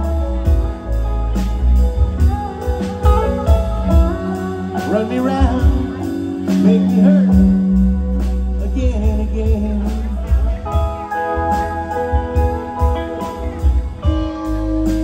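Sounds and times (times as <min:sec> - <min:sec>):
live band playing: 0:00.0 - 0:15.0
steady bass line: 0:00.0 - 0:15.0.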